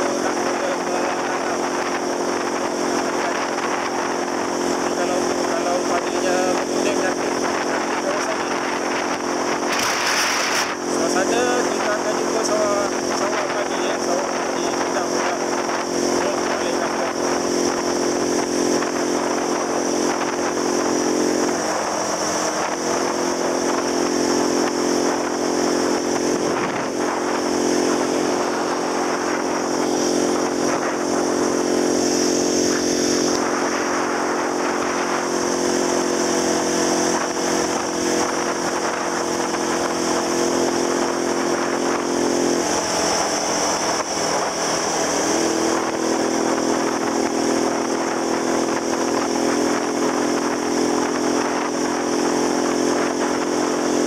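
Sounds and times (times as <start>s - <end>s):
motor scooter engine running: 0.0s - 54.0s
wind and road noise: 0.0s - 54.0s.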